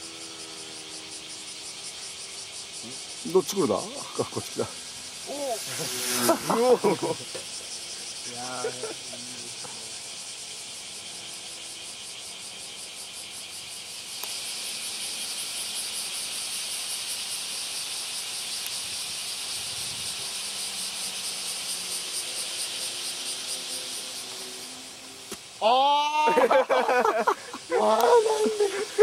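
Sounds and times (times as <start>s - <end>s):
cicadas chirring: 0.0s - 29.0s.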